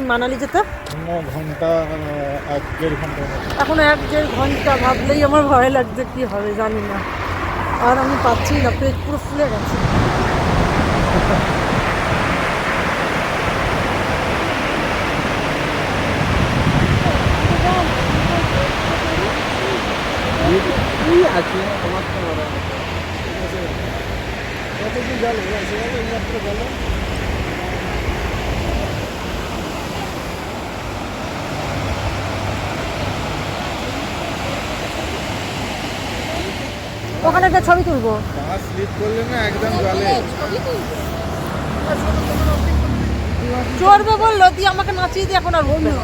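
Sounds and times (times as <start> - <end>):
fast river rushing: 0.0 - 46.0.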